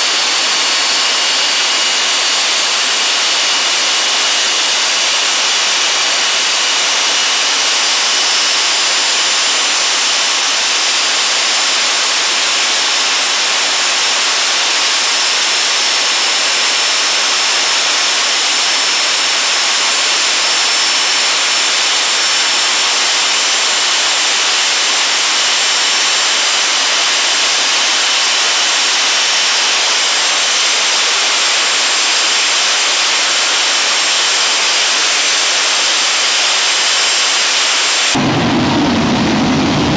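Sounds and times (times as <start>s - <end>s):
gas turbine running: 0.0s - 39.9s
high steady whines: 0.0s - 39.9s.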